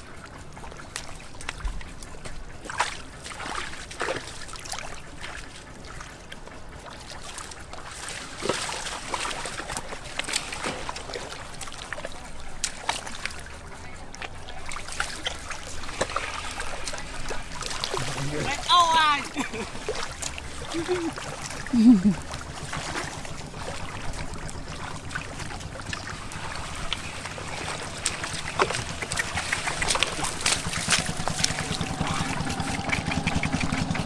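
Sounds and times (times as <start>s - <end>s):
water splashing and sloshing: 0.0s - 34.0s
water trickling: 0.0s - 34.0s.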